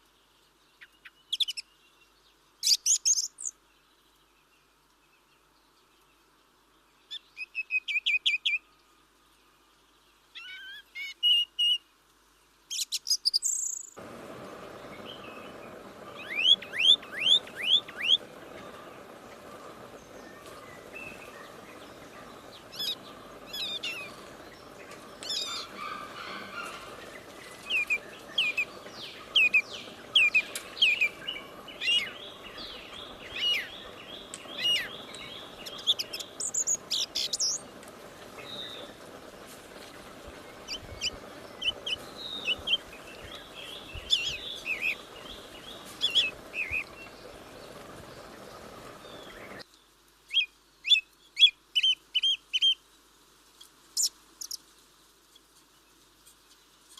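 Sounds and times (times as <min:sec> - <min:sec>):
outdoor background hiss: 0:00.0 - 0:56.9
small birds chirping: 0:00.0 - 0:56.9.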